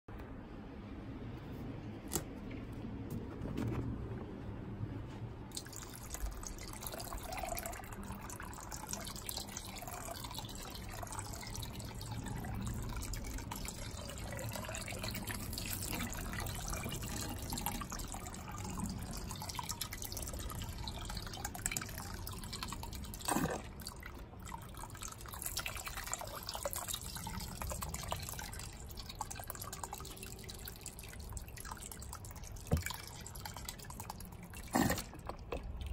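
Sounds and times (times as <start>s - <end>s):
water pouring and splashing: 5.5s - 35.9s.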